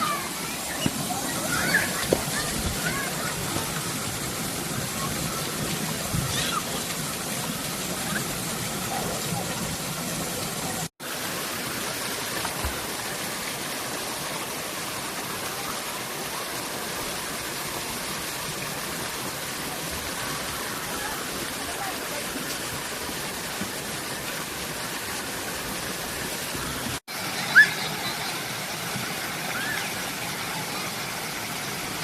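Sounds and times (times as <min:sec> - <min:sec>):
rushing water: 0:00.0 - 0:32.0.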